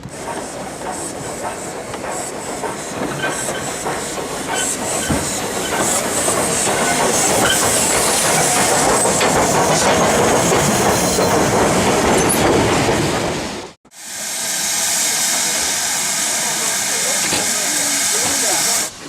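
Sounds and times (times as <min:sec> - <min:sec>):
steam train running past: 0:00.0 - 0:19.0.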